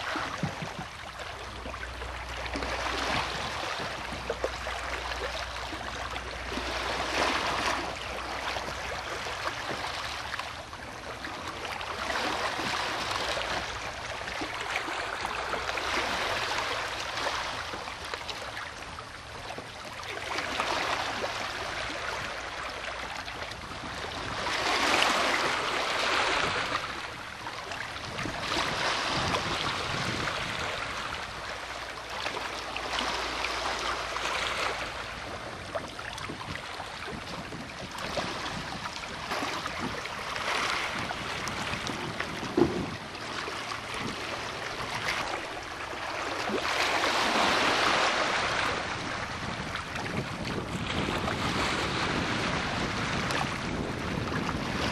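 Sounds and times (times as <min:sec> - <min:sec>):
small waves washing against shore: 0:00.0 - 0:54.9.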